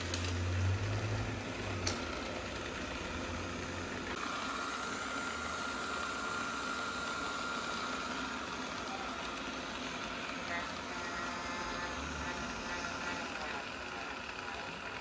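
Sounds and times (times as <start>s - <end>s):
robot vacuum motors running: 0.0s - 15.0s.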